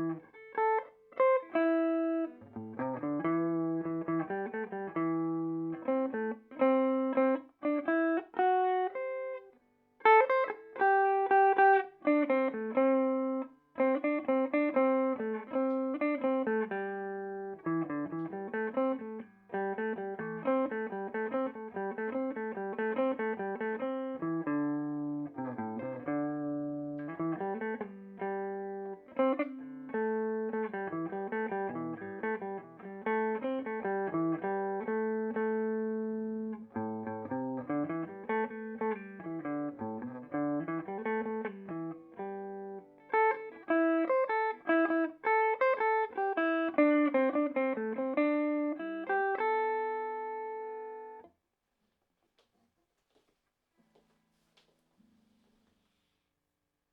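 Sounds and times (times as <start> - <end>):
clean electric guitar: 0.0 - 51.3.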